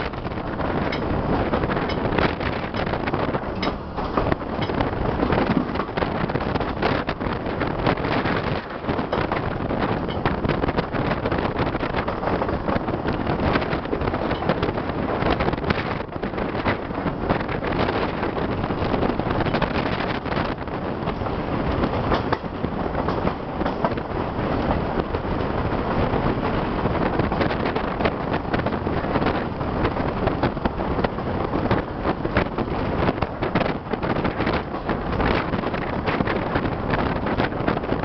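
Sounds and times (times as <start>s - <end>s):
train wheels on rails: 0.0s - 38.0s
wind buffeting microphone: 0.0s - 38.0s.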